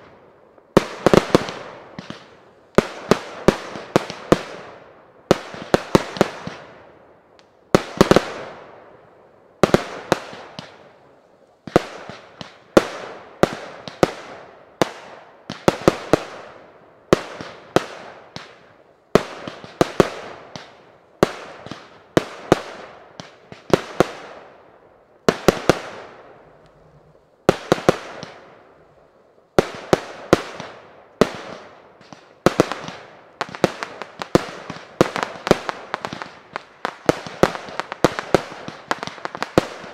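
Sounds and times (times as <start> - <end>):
fireworks bursting with echo: 0.0 - 39.9.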